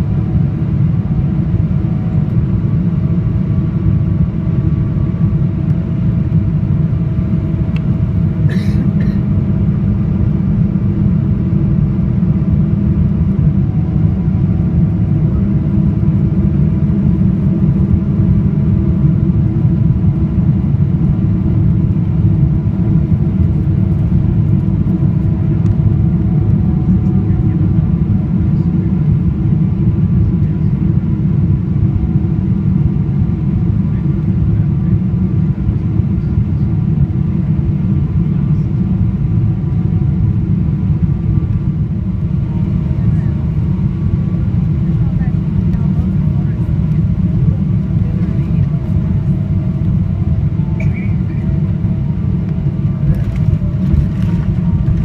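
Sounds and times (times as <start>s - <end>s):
aircraft cabin engine rumble: 0.0s - 55.0s
faint steady engine tones: 0.0s - 55.0s.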